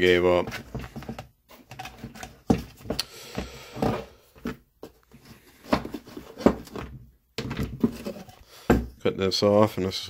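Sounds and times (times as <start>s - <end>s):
knocks and scrapes on plastic wheel: 0.0s - 9.0s.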